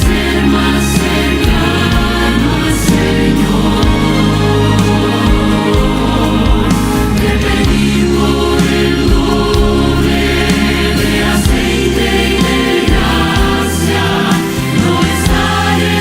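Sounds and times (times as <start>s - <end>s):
choir singing: 0.0s - 16.0s
instrumental accompaniment: 0.0s - 16.0s.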